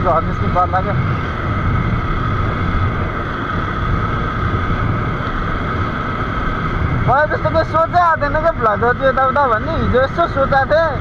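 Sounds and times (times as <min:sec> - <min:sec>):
motorcycle engine drone: 0:00.0 - 0:11.0
road and wind noise: 0:00.0 - 0:11.0.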